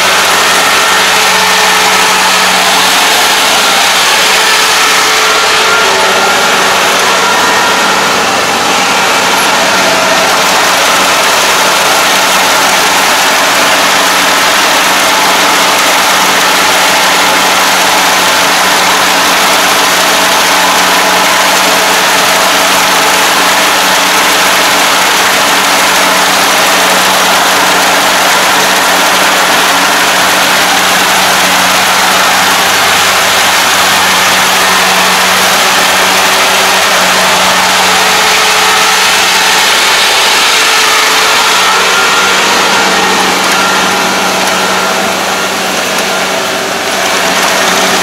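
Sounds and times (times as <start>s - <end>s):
combine harvester drone: 0.0s - 48.0s.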